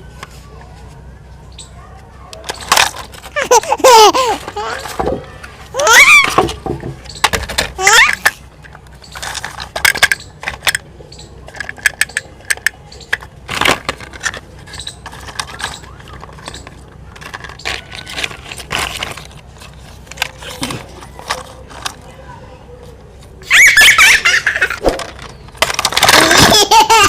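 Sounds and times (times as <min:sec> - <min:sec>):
toys clicking and clattering: 0:02.3 - 0:22.2, 0:23.2 - 0:27.0.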